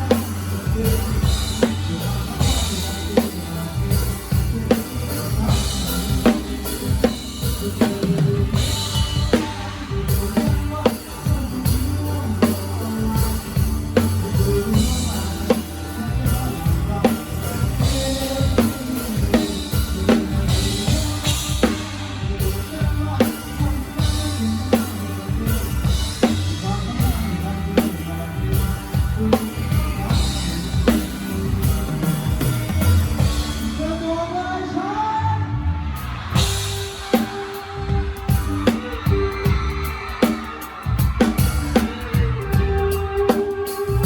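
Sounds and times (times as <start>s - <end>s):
drum kit playing a beat: 0.0s - 34.8s, 35.9s - 44.0s
bass guitar notes: 0.0s - 40.0s, 40.9s - 44.0s.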